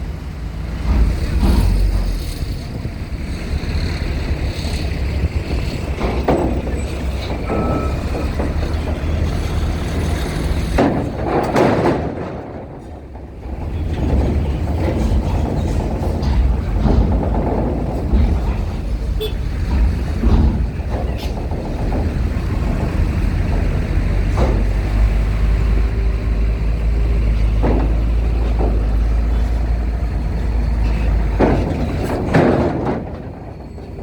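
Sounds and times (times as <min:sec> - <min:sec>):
heavy vehicle engines rumbling: 0:00.0 - 0:34.0.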